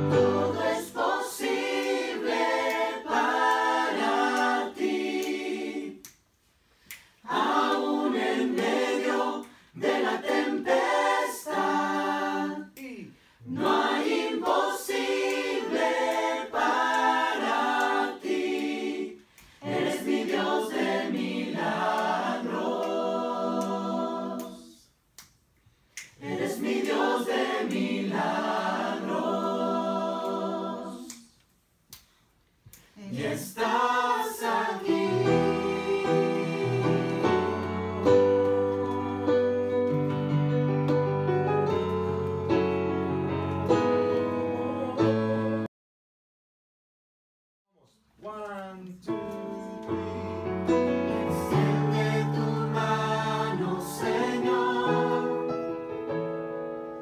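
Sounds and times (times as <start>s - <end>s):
group singing in harmony: 0.0s - 6.2s, 6.9s - 24.9s, 26.1s - 31.4s, 33.0s - 40.5s, 43.1s - 45.7s, 49.3s - 56.0s.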